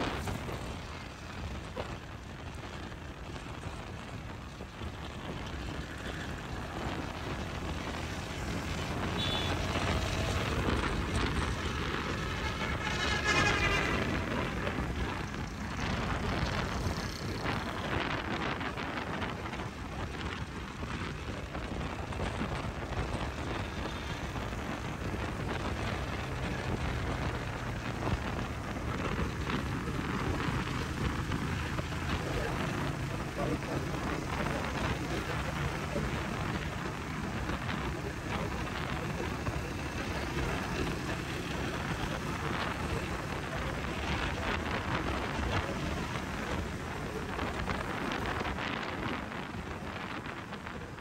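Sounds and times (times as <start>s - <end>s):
motorcycle engine running: 0.0s - 50.6s
wind rushing over microphone: 0.0s - 51.0s.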